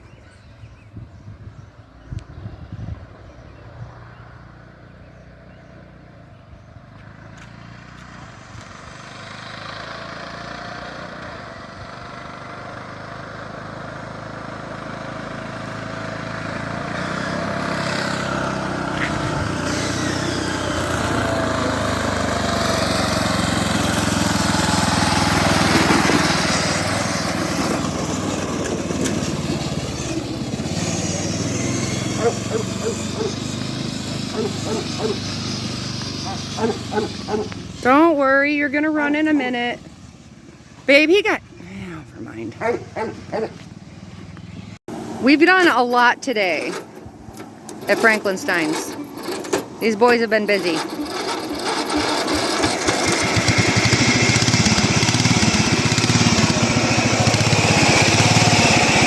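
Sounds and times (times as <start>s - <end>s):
small petrol engine running: 4.0s - 59.0s.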